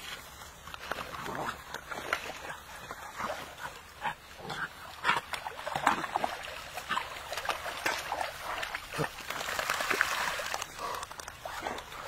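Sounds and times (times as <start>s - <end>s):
dog paddling splashes: 0.8s - 12.0s.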